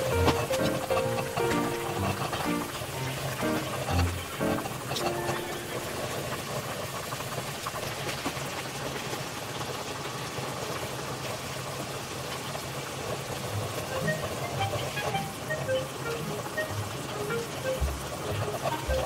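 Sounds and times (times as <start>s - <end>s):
water boiling in pan: 0.0s - 19.0s.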